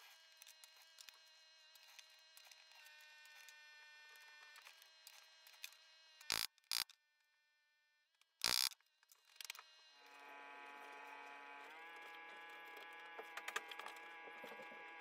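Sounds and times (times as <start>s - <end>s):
faint hum of held tones: 0.0s - 15.0s.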